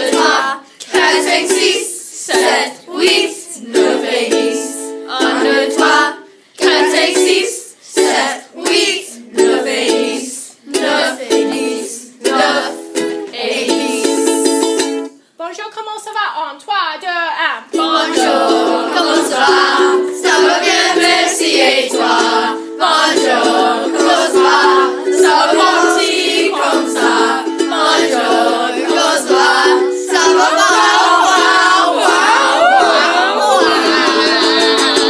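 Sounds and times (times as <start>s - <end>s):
boys singing: 0.0s - 14.6s, 17.7s - 35.0s
instrumental backing music: 2.4s - 15.2s, 17.8s - 35.0s.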